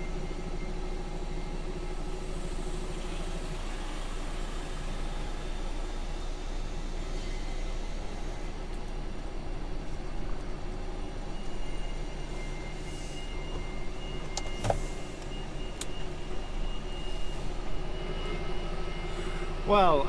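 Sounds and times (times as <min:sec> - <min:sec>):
diesel lorry engine running: 0:00.0 - 0:20.0.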